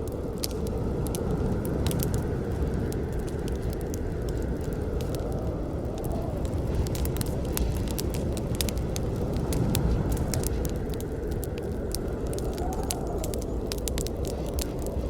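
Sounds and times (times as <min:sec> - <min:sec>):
crackles and pops of burning wood: 0:00.0 - 0:15.0
low rumble of flames: 0:00.0 - 0:15.0.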